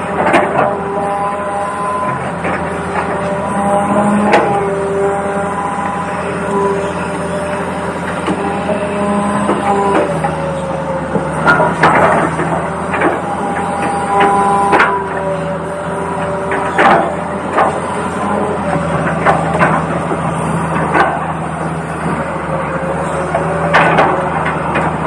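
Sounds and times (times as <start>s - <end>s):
toy excavator motors whining: 0.0s - 25.0s.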